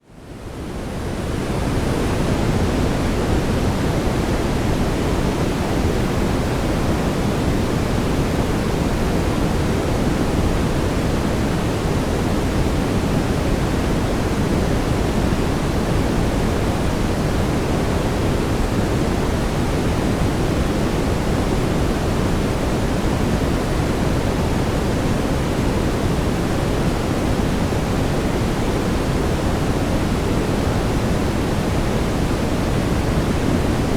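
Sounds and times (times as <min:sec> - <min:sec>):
brown noise hiss: 0:00.1 - 0:33.9.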